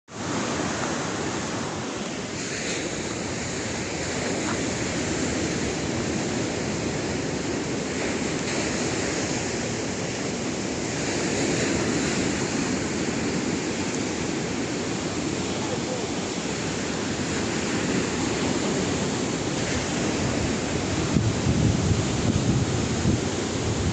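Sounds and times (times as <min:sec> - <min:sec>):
surf washing onto shore: 0:00.1 - 0:23.9
wind on microphone: 0:00.1 - 0:23.9.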